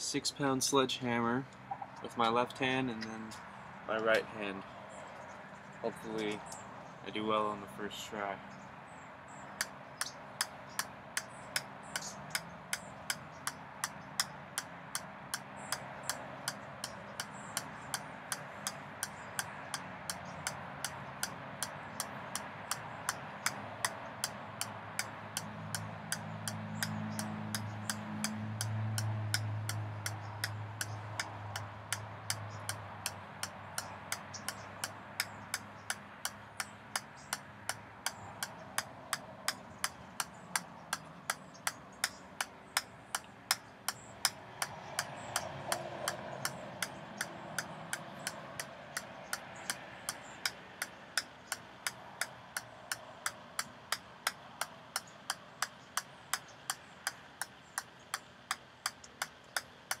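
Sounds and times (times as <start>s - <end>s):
ping-pong ball bouncing on metal: 9.6s - 60.0s.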